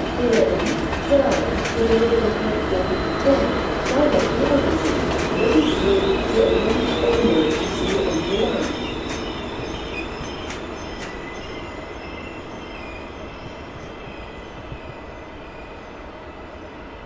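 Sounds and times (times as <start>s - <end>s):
train running on tracks: 0.0s - 17.0s.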